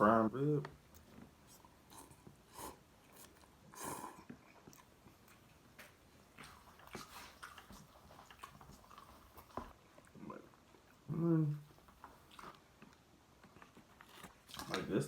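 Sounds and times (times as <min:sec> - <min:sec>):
chewing noodles: 0:00.8 - 0:15.0.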